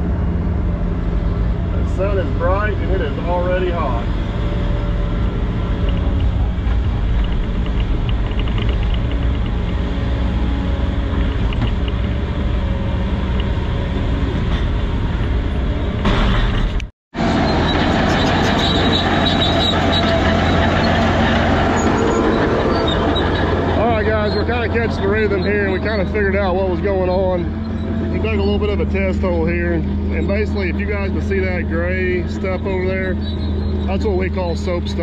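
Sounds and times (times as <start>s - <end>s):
bulldozer engine running: 0.0s - 35.0s
excavator engine and hydraulics: 0.0s - 35.0s.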